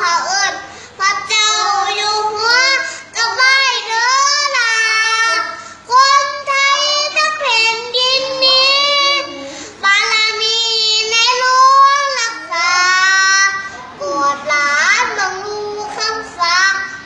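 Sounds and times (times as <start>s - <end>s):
boy singing: 0.0s - 17.0s.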